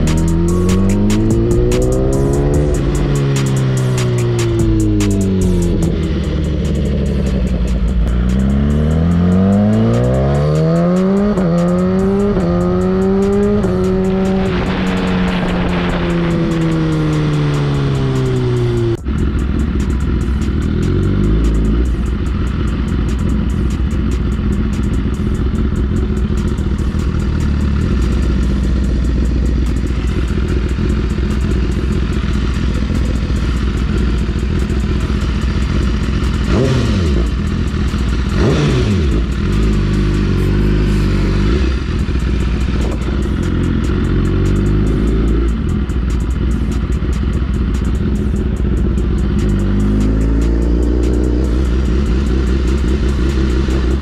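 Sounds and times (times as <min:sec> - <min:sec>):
sportbike engine revving: 0:00.0 - 0:54.0.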